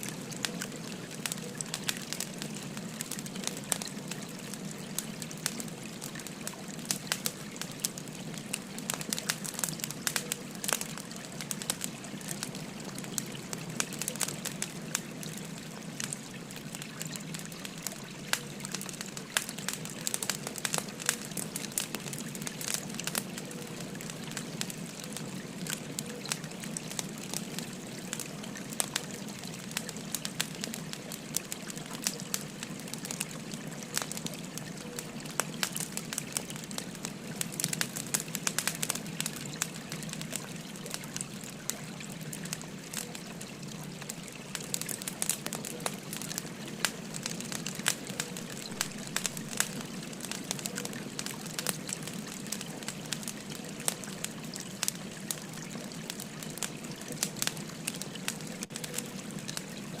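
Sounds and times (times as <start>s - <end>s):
firewood crackling: 0.0s - 60.0s.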